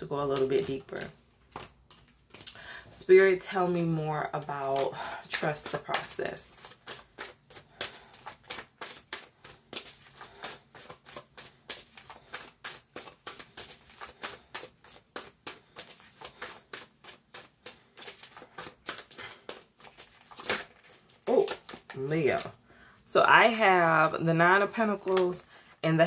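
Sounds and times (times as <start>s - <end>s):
cards being shuffled: 0.3s - 2.6s, 3.7s - 22.6s, 24.9s - 25.4s.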